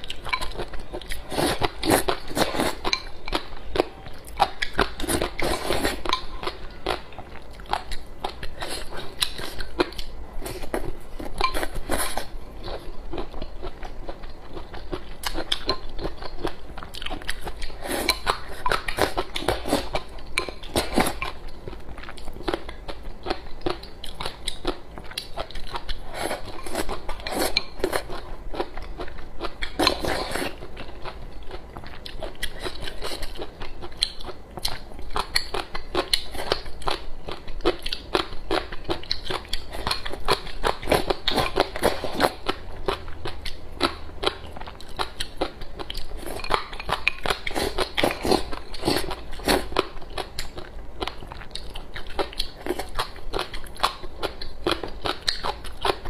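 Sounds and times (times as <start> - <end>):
crunching and chewing: 0.0 - 56.0.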